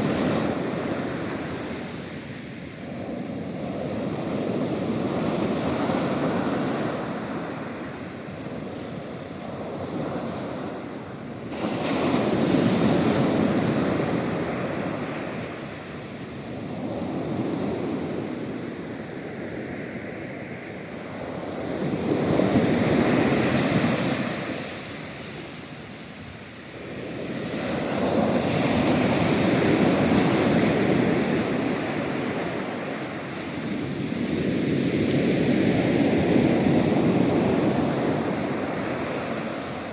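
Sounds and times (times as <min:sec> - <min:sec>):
sea waves breaking: 0:00.0 - 0:20.2, 0:21.0 - 0:39.9.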